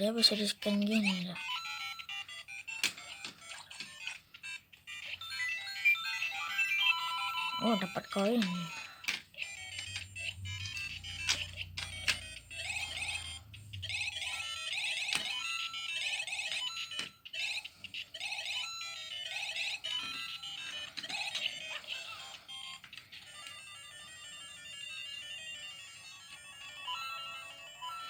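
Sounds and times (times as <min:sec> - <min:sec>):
beeping game-style music from toy: 0:00.0 - 0:28.0.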